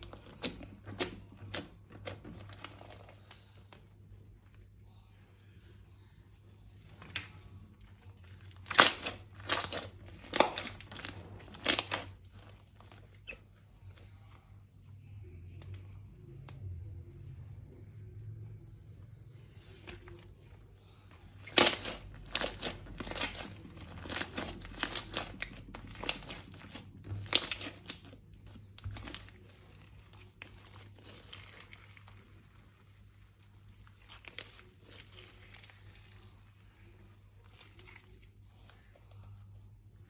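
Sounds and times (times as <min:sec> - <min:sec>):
crinkling and crackling: 0:00.0 - 0:16.7, 0:17.3 - 0:40.0.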